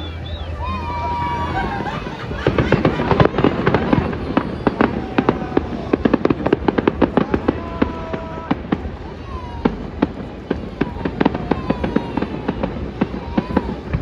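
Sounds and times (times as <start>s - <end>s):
fireworks crackling bangs: 0.0s - 14.0s
whistling fireworks: 0.0s - 14.0s.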